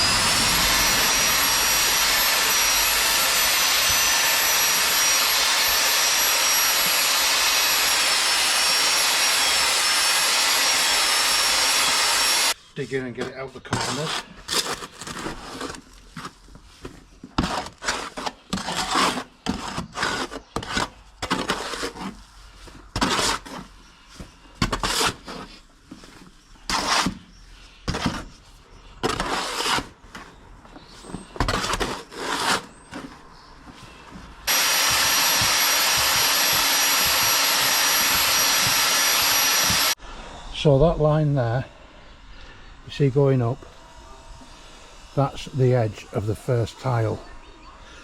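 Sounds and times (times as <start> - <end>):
drill mixing mortar: 0.0 - 12.6, 13.2 - 40.0.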